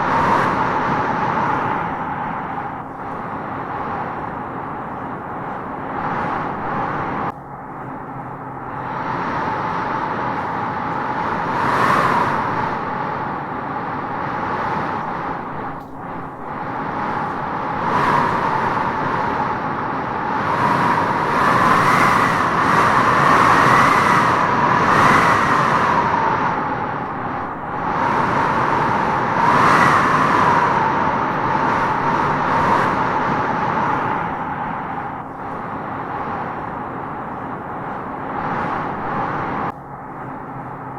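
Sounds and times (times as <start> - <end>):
strong wind howling: 0.0 - 40.9.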